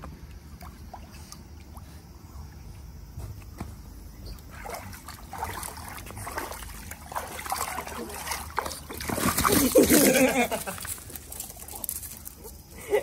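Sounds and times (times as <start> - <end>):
water splashing in a pool: 0.0 - 2.7, 4.4 - 12.2.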